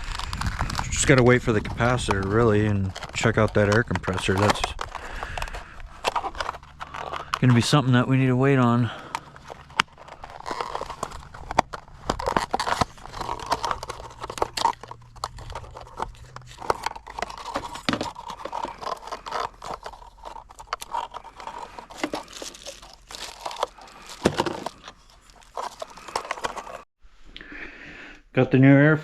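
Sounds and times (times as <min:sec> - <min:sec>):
crinkling and scraping: 0:00.0 - 0:26.9.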